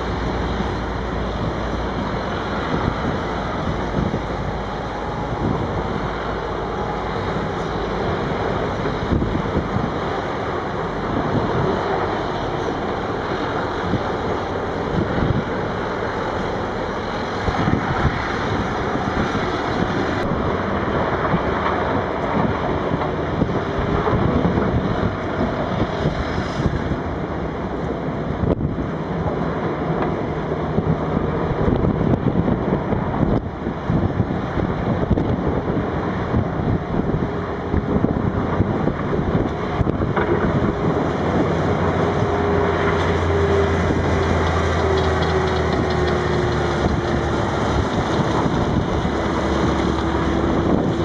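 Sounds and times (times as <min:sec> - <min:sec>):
heavy diesel machinery: 0:00.0 - 0:51.0
trucks and loaders running: 0:00.0 - 0:51.0
wind buffeting microphone: 0:00.0 - 0:51.0.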